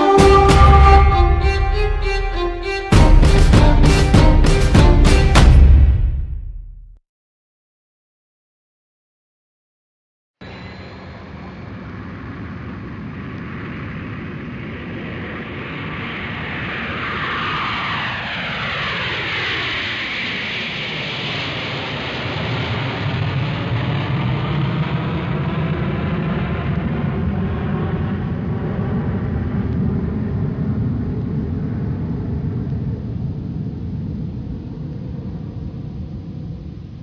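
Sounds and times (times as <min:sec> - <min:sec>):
airplane flying overhead: 0:00.0 - 0:05.3, 0:10.4 - 0:37.0.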